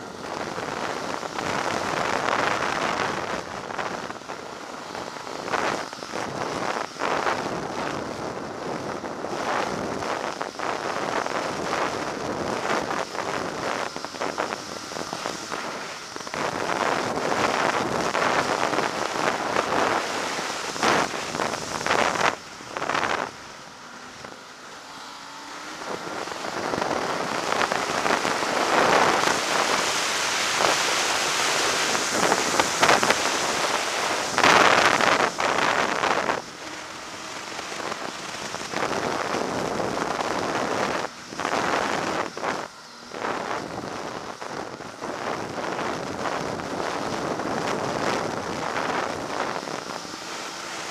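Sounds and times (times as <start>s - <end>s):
snowmobile engine and track: 0.0s - 50.9s
wind rushing over microphone: 0.0s - 50.9s.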